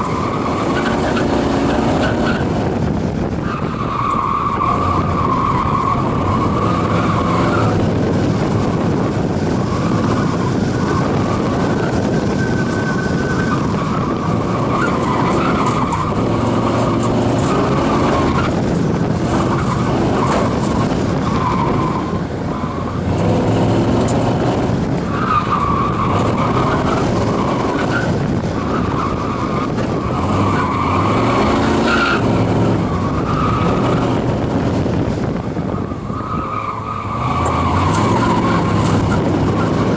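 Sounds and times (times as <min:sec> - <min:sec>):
engine running hard: 0:00.0 - 0:39.9
road and wind noise: 0:00.0 - 0:39.9.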